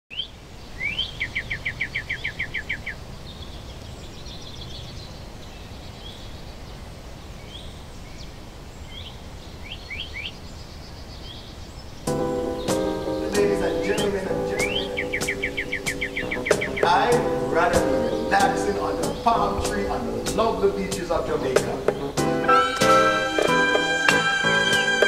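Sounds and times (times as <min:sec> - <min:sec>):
birds singing: 0:00.1 - 0:25.0.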